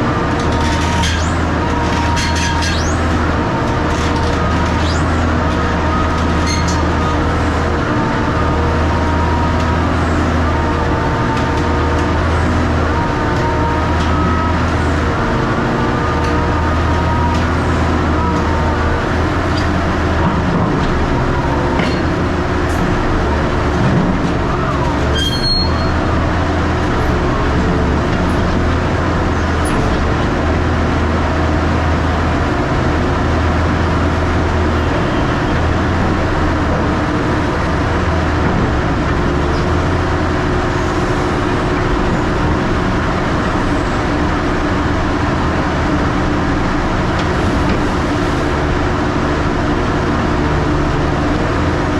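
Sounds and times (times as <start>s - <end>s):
heavy machinery engine: 0.0s - 51.9s.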